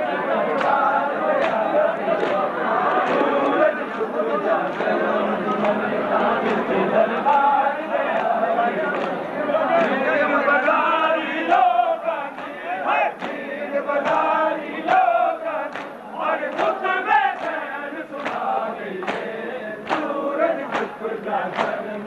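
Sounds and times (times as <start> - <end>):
crowd of men chanting: 0.0 - 22.0.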